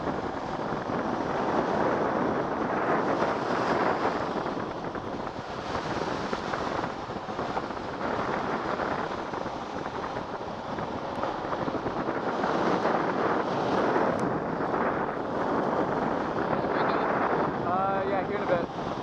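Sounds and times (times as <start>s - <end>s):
longboard wheels rolling on asphalt: 0.0s - 19.0s
wind rushing over microphone: 0.0s - 19.0s.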